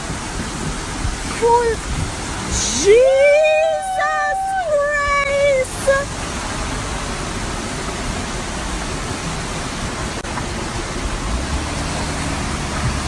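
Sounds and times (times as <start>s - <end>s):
floodwater rushing down a road: 0.0s - 13.0s.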